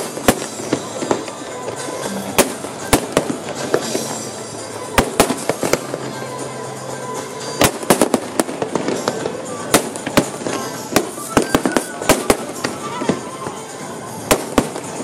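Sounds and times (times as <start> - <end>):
fireworks bangs: 0.0 - 6.1, 7.6 - 15.0.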